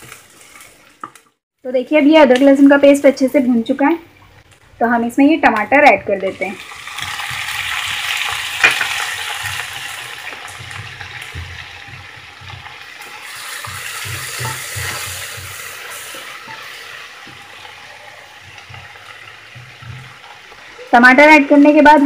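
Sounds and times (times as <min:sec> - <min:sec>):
tomatoes sizzling in hot oil: 0:00.0 - 0:01.4, 0:02.0 - 0:22.0.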